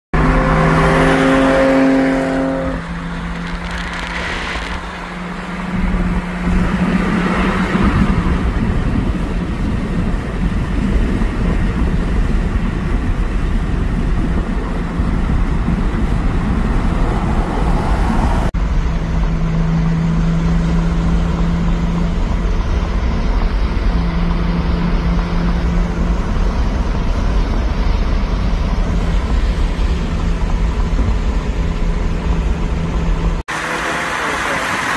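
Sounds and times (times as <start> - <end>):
low engine drone: 0.1 - 34.9
road and wind noise: 0.2 - 34.9.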